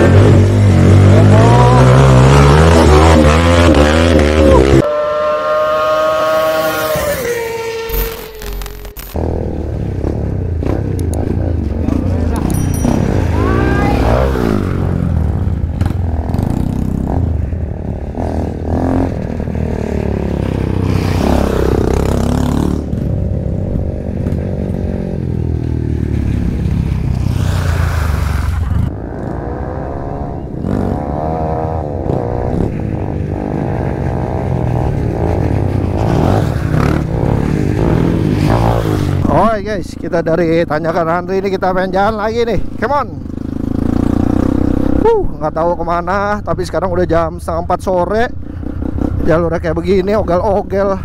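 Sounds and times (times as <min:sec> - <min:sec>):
motorcycle engine revving: 0:00.0 - 0:39.5, 0:41.9 - 0:45.1, 0:48.4 - 0:50.4.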